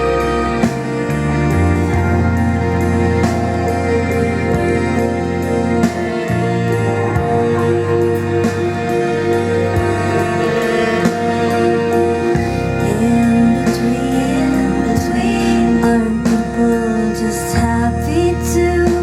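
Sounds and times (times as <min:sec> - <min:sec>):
pop song over loudspeakers: 0:00.0 - 0:19.0.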